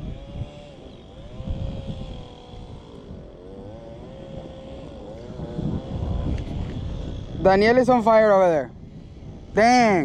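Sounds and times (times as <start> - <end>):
distant engine accelerating: 0.0 - 10.0
wind on microphone: 0.0 - 10.0.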